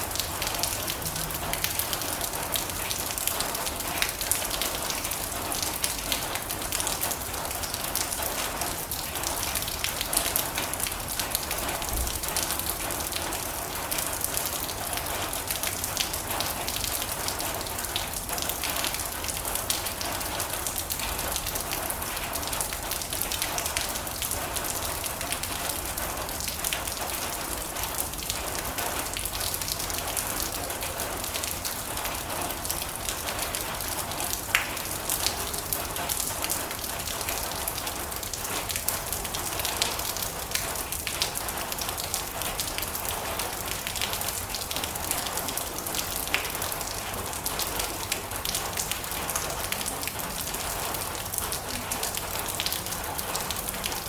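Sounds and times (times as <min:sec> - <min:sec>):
rain drumming on a metal roof: 0:00.0 - 0:54.0.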